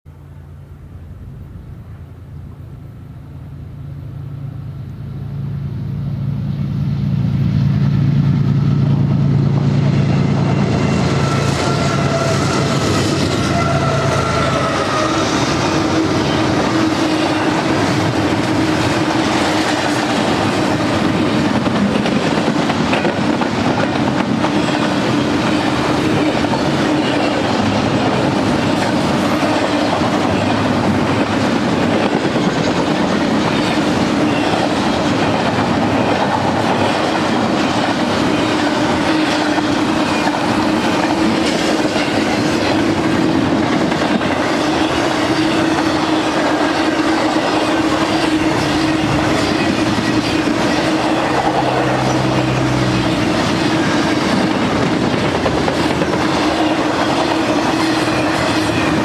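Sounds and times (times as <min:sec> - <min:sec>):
diesel locomotive engine rumble: 0:00.1 - 0:59.0
freight cars rumbling over rails: 0:00.1 - 0:59.0.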